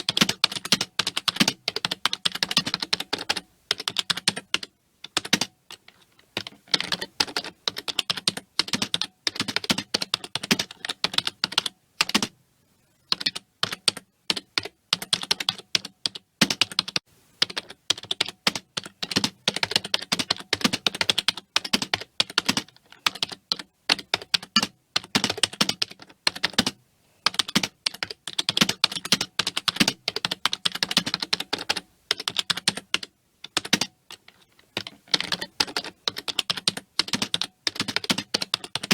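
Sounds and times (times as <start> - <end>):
fast typing on computer keyboard: 0.0 - 12.3, 13.1 - 38.9.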